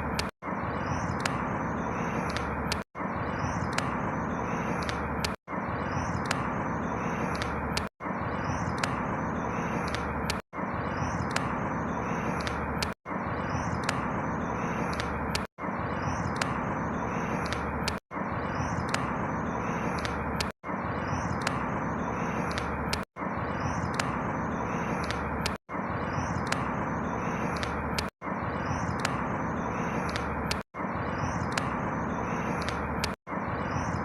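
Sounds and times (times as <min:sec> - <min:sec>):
birds chirping: 0:00.0 - 0:34.0
distant traffic hum: 0:00.0 - 0:34.0.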